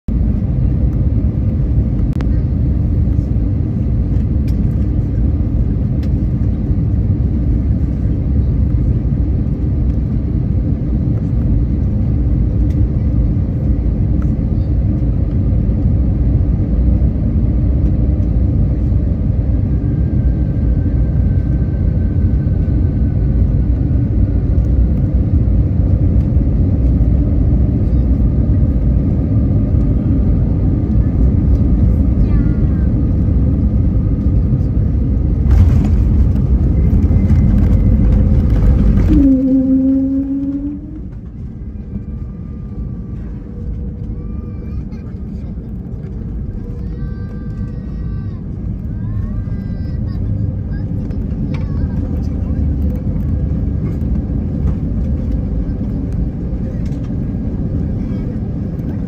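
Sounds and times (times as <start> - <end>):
jet engines rumbling: 0.1 - 59.0.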